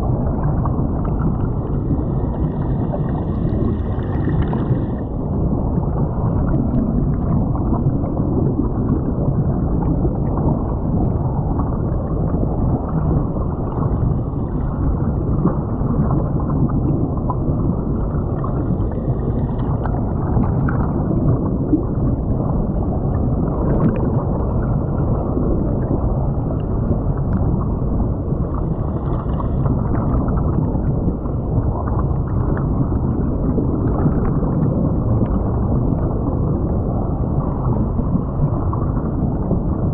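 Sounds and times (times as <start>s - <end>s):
muffled underwater creek rushing: 0.0s - 39.9s
ticks of bubbles and grit: 0.0s - 39.9s.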